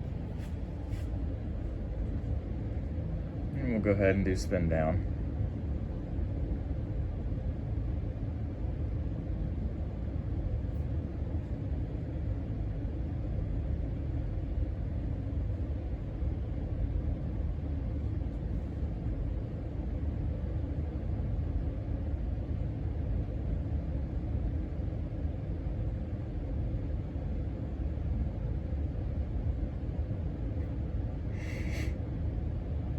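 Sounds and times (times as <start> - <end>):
ceiling fan blades rumbling: 0.0 - 32.9
faint fan hum: 0.0 - 32.9.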